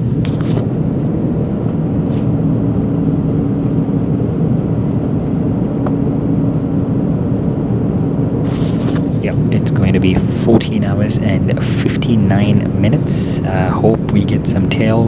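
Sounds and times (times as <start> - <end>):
aircraft cabin engine rumble: 0.0 - 15.0
faint steady hum: 0.0 - 15.0.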